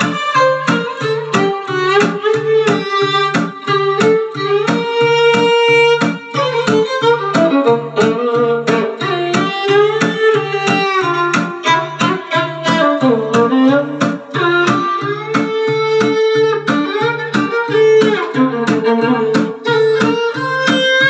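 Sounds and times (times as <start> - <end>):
percussion beat: 0.0 - 21.0
plucked strings: 0.0 - 21.0
violin melody: 0.0 - 21.0.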